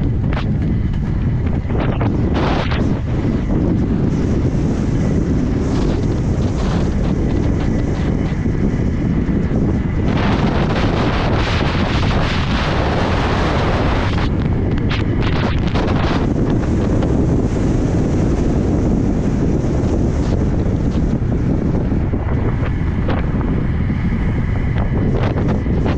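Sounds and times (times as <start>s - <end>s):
wheels rolling on asphalt: 0.0s - 25.9s
wind buffeting microphone: 0.0s - 25.9s.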